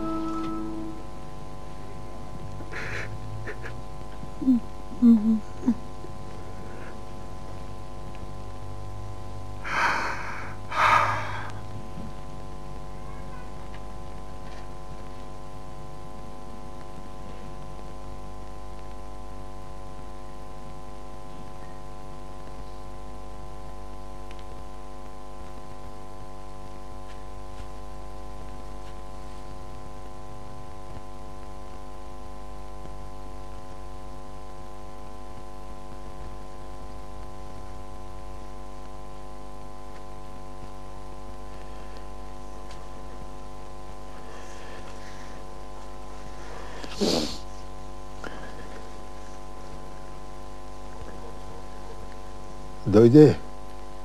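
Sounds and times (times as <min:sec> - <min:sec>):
electrical mains hum: 0:00.0 - 0:54.0
faint hiss: 0:04.4 - 0:54.0.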